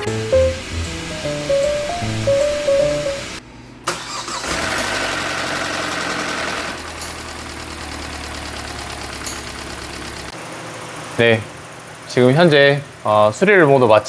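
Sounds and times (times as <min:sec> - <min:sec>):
car engine cranking and idling: 0:00.0 - 0:13.0.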